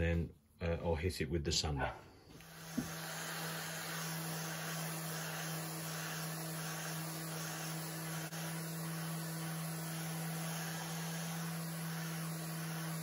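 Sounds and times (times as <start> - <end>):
orbital sander on wood: 2.4 - 13.0.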